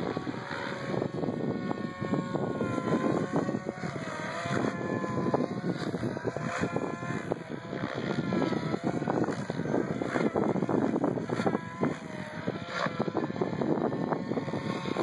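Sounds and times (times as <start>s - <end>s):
helicopter motor whine: 0.0s - 15.0s
rotor blades rushing: 0.0s - 15.0s.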